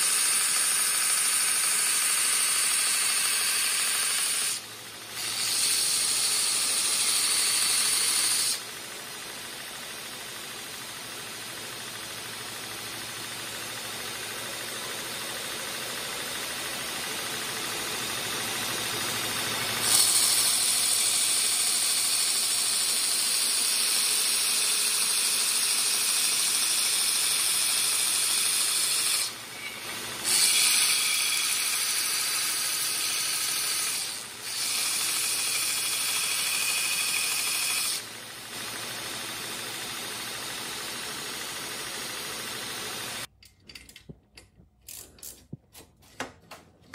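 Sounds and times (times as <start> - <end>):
belt grinder running: 0.0 - 43.3.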